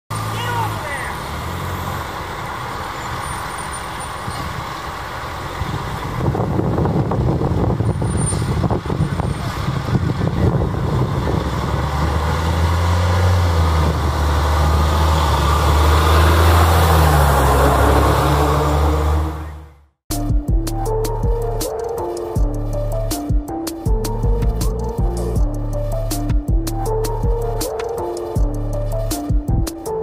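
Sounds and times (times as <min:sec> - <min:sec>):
truck engine driving: 0:00.1 - 0:30.0.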